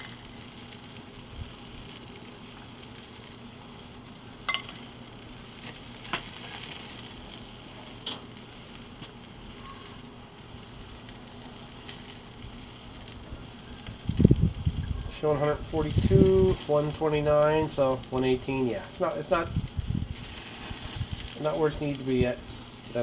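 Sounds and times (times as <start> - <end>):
meat sizzling on a grill: 0.0 - 23.0.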